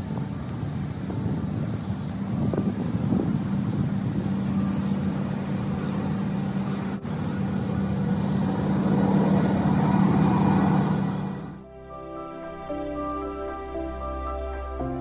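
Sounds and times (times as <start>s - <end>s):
low hum: 0.0s - 15.0s
road traffic rumble: 0.0s - 15.0s.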